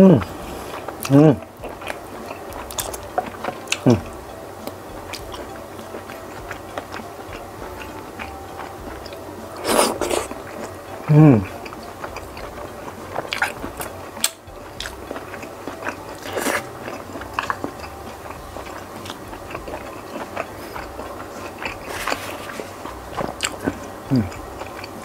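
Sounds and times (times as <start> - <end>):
chewing crunches: 0.2 - 25.0
wet chewing and mouth smacks: 0.2 - 25.0.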